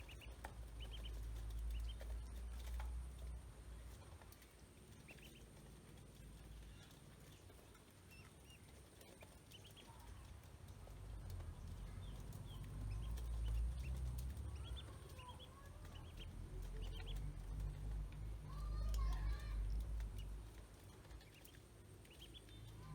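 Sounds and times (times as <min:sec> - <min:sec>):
ducklings peeping: 0:00.0 - 0:22.9.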